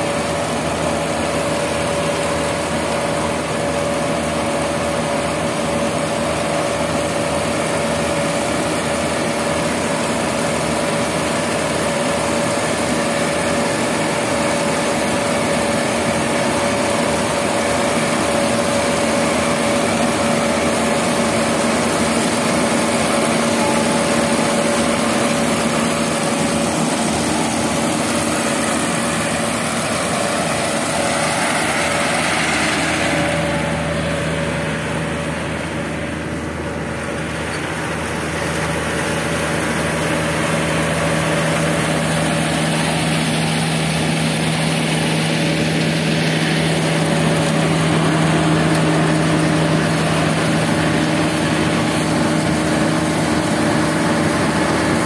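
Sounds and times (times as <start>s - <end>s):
combine harvester engine droning: 0.0s - 55.0s
steady machine whine: 0.0s - 55.0s.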